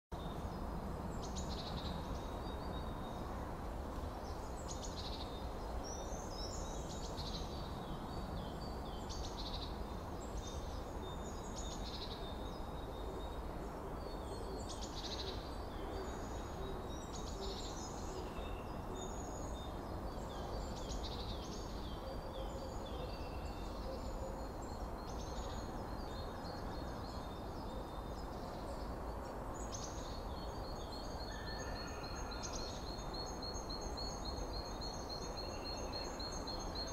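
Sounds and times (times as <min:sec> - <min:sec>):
low outdoor background rumble: 0:00.2 - 0:36.9.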